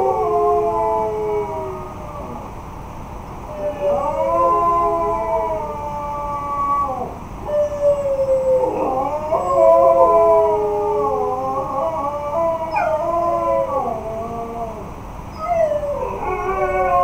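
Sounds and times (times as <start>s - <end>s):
dogs howling: 0.0s - 2.5s, 3.5s - 17.0s.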